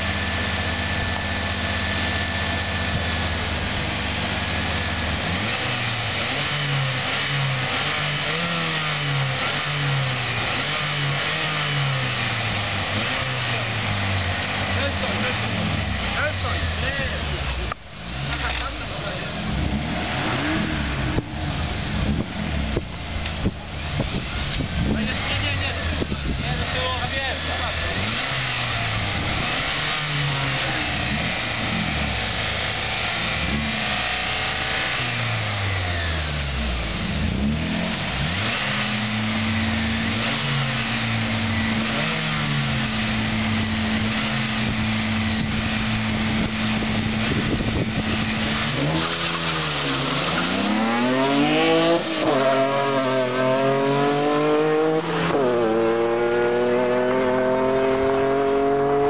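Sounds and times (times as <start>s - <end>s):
car engines revving: 0.0s - 59.0s
cars accelerating hard: 0.0s - 59.0s.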